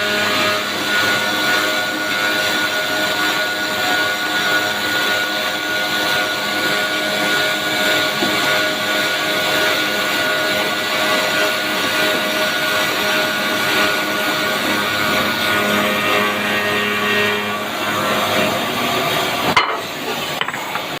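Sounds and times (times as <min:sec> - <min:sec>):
sawing machine running: 0:00.0 - 0:21.0.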